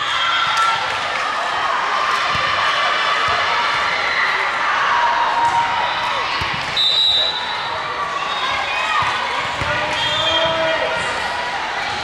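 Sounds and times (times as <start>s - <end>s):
many voices in reverberant hall: 0.0s - 12.0s.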